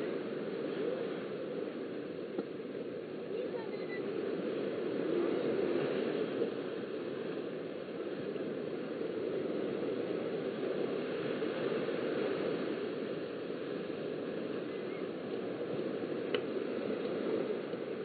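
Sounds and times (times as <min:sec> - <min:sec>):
surf washing onto sand: 0:00.0 - 0:18.0
wind on microphone: 0:00.0 - 0:18.0.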